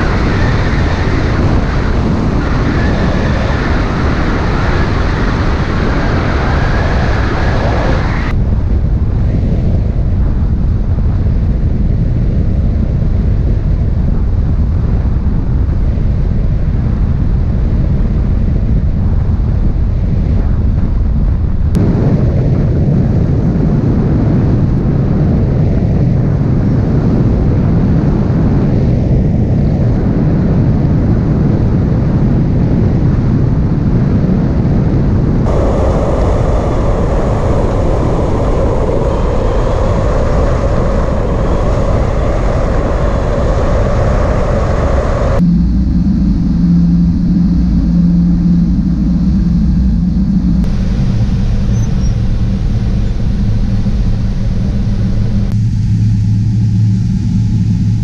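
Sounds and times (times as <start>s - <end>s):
airflow and wind buffeting: 0.0s - 58.0s.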